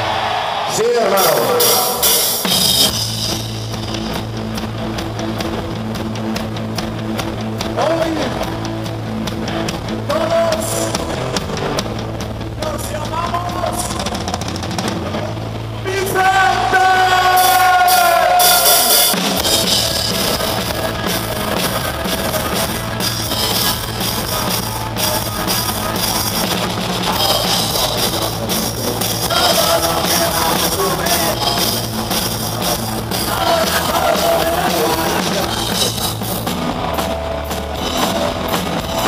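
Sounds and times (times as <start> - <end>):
drums and cymbals: 1.0 - 39.0
live rock band playing: 1.0 - 39.0.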